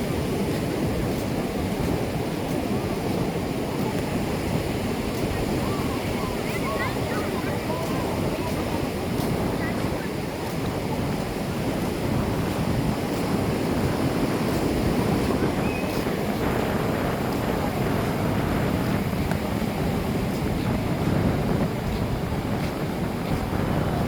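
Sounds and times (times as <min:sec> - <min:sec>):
ocean surf washing on beach: 0:00.0 - 0:24.0
wind buffeting microphone: 0:00.0 - 0:24.0.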